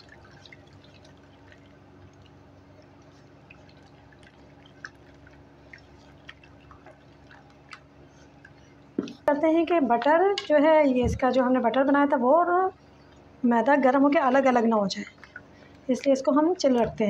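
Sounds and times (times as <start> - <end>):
hand mixing batter in metal bowl: 0.0 - 11.9, 13.6 - 17.0
low steady hum: 0.0 - 17.0.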